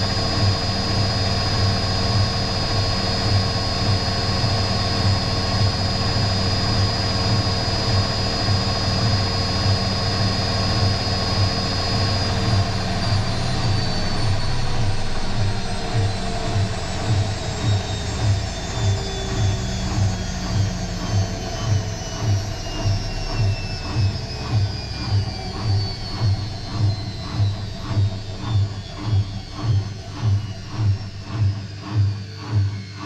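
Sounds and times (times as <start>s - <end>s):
washing machine spinning: 0.0s - 33.0s.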